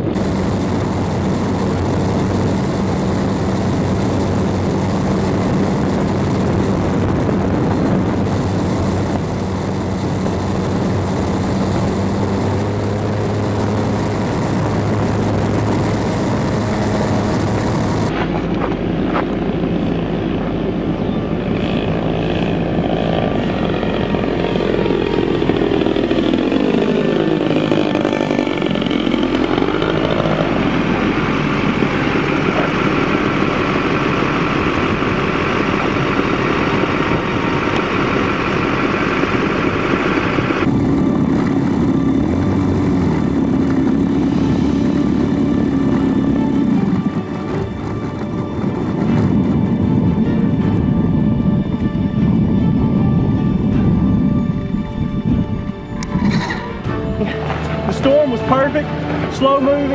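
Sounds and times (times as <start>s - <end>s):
propeller plane engine running: 0.0s - 59.9s
propeller plane flying low past: 0.0s - 59.9s
wind noise: 0.0s - 59.9s.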